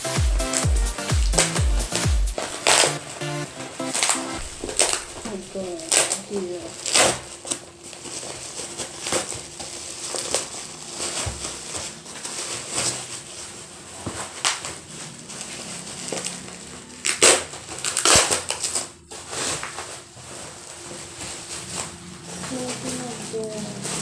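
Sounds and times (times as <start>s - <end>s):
plastic packaging crinkling: 2.4s - 24.0s.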